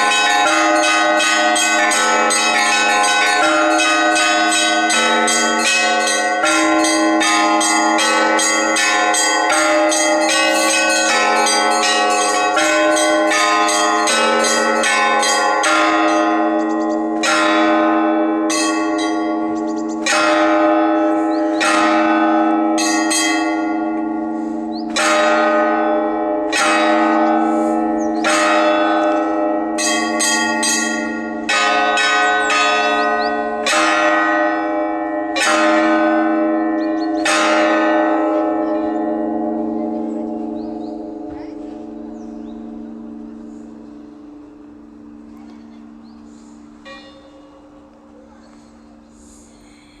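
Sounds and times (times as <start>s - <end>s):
church bells ringing: 0.0s - 50.0s
hum of large bells: 0.0s - 50.0s.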